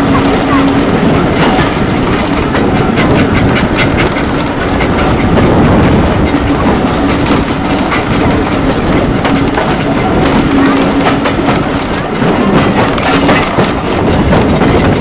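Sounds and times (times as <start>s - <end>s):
train carriage rolling: 0.0s - 15.0s
wheels clicking on rail joints: 0.0s - 15.0s.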